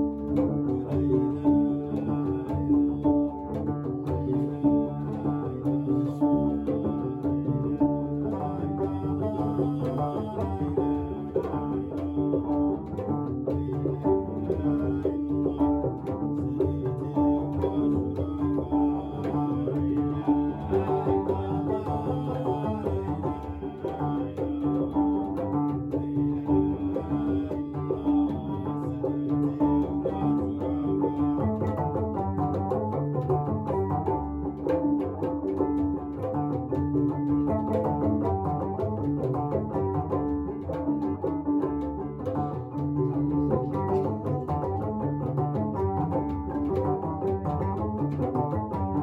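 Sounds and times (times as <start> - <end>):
plucked string instruments: 0.0 - 49.0.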